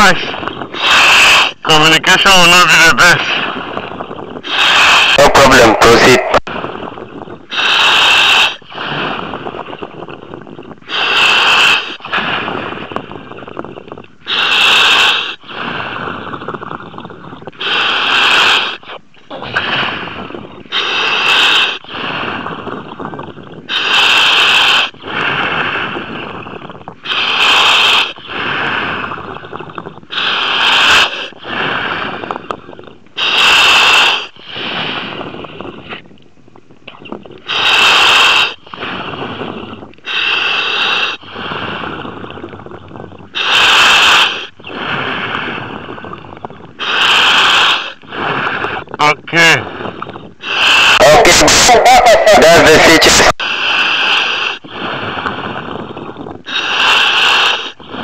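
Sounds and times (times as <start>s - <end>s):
diver breathing through regulator: 0.0s - 1.7s, 3.0s - 36.1s, 37.1s - 58.0s
bubbling: 3.3s - 33.1s, 34.6s - 58.0s.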